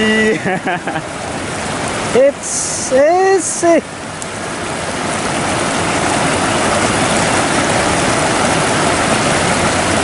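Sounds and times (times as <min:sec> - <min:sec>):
river flowing over stones: 0:00.0 - 0:10.0.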